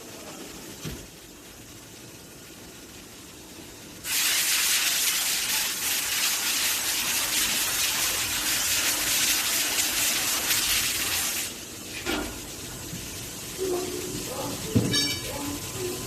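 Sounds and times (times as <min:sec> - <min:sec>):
coolant spraying with gushing hiss: 0:00.0 - 0:16.0
faint hiss of liquid: 0:01.4 - 0:16.0.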